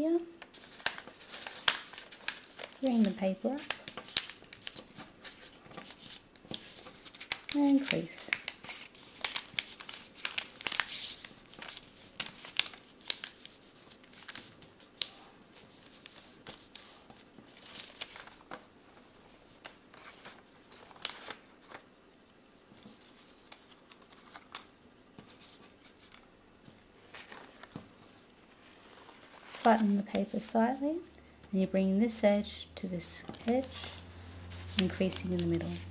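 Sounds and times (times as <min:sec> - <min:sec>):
paper crackling and rustling: 0:00.4 - 0:21.9, 0:22.8 - 0:31.1, 0:33.1 - 0:35.9.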